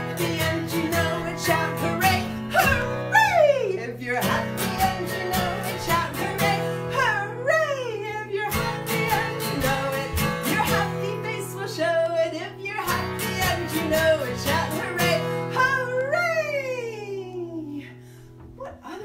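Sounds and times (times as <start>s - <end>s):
acoustic guitar strumming: 0.0s - 16.4s
woman singing: 0.0s - 18.0s, 18.6s - 19.0s.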